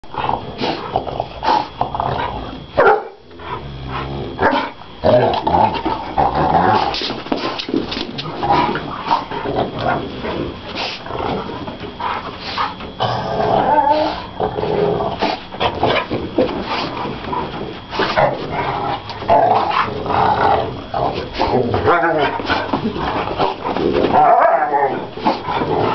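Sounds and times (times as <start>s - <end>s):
dogs growling and grunting: 0.0s - 25.9s.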